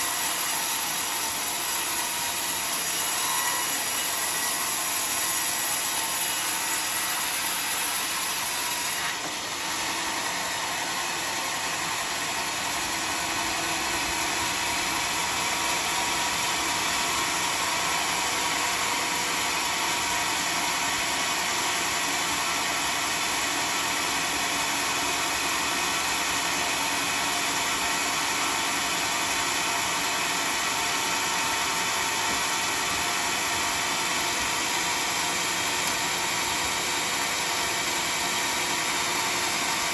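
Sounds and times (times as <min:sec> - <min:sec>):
band sawmill sawing wood: 0:00.0 - 0:39.9.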